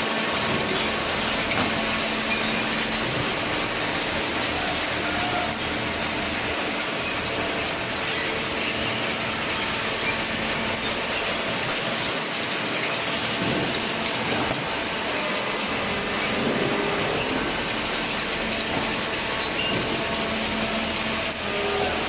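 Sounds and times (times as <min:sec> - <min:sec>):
cardboard baler clattering: 0:00.3 - 0:22.0.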